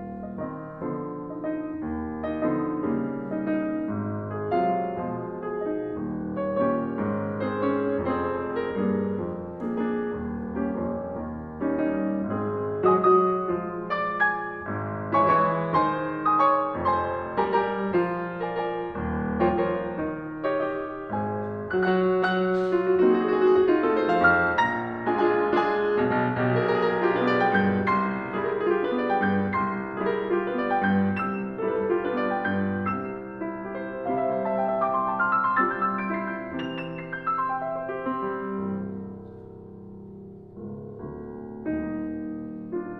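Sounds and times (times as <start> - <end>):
piano music: 0.0 - 42.9.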